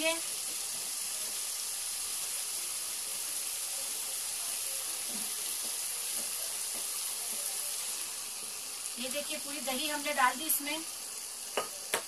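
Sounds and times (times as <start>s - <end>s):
masala sizzling in pan: 0.0s - 12.0s.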